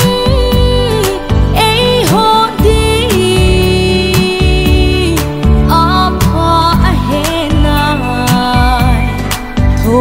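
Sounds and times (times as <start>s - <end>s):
melodic lead line with sliding notes: 0.0s - 10.0s
steady bass: 0.0s - 10.0s.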